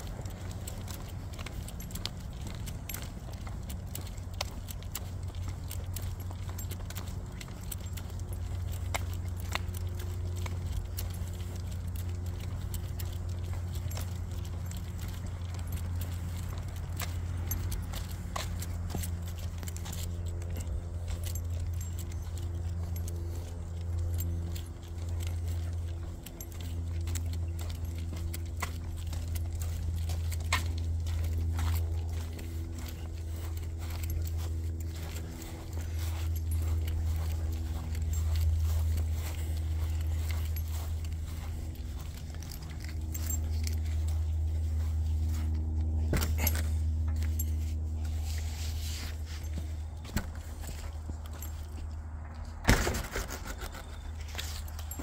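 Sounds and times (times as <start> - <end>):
dog collar tags jingling: 0.0 - 52.3, 53.5 - 55.0
dog nails clicking on pavement: 0.0 - 55.0
steady low hum: 0.0 - 55.0.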